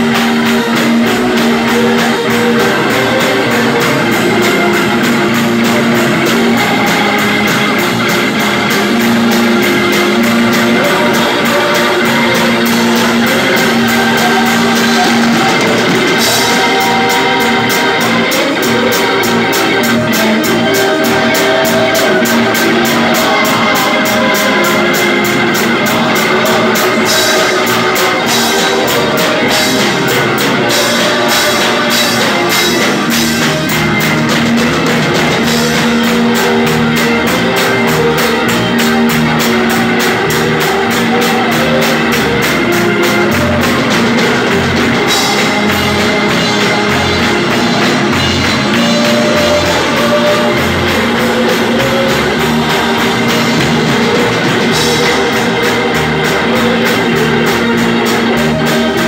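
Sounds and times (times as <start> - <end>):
church band playing: 0.0 - 59.0
congregation clapping along: 0.0 - 59.0.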